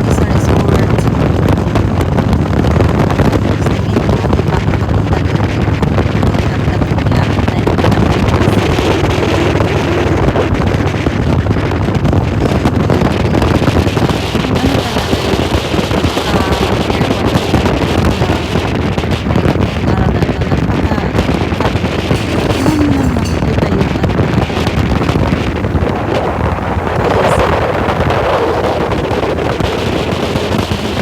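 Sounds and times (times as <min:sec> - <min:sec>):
motorcycle running at speed: 0:00.0 - 0:31.0
wind noise on microphone: 0:00.0 - 0:31.0.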